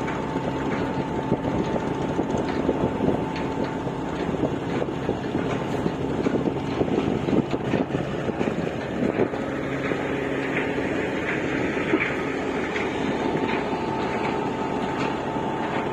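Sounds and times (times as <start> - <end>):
diesel engine droning hum: 0.0 - 15.9
irregular rattle: 0.0 - 15.9.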